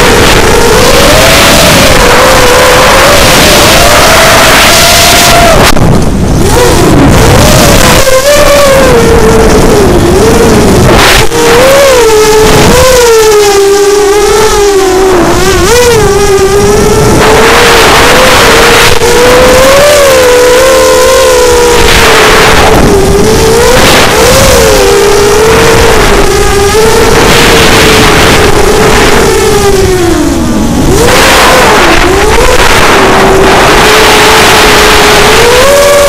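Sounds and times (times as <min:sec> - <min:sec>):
quadcopter motors whining: 0:00.0 - 0:36.0
wind noise rushes: 0:00.0 - 0:36.0.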